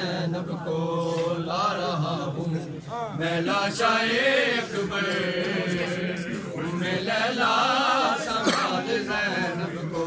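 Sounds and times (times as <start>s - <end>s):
men chanting a lament: 0.0s - 10.0s.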